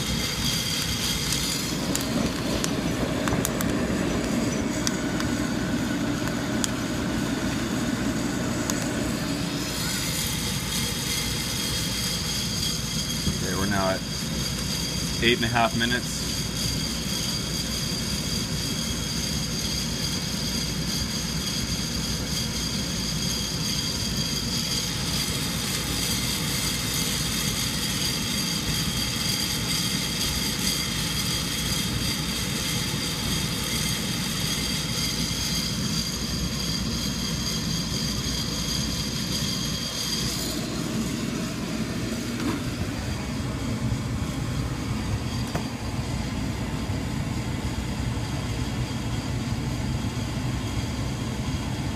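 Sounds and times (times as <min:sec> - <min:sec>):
high whine: 0:00.0 - 0:51.9
hot-air blower rushing: 0:00.0 - 0:51.9.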